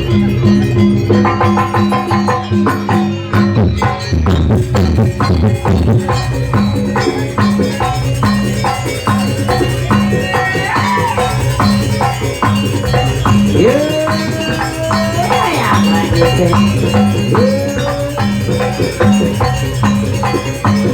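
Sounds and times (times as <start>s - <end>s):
rattling shaker percussion: 0.0s - 20.9s.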